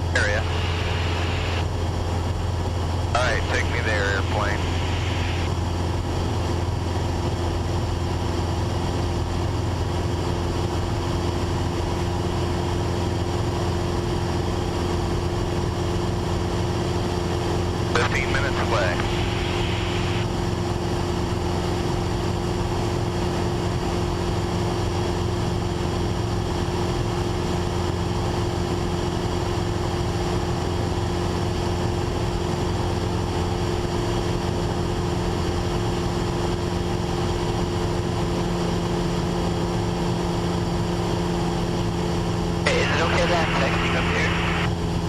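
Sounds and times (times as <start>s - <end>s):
light aircraft engine droning: 0.0s - 45.0s.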